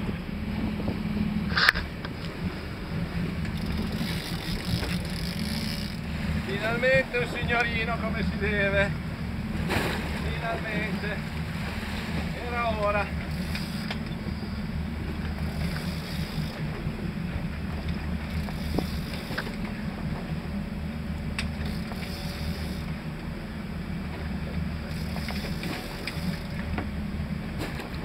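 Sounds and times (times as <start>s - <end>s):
boat engine idling: 0.0s - 28.0s
sea noise: 0.0s - 28.0s
wind: 0.0s - 28.0s.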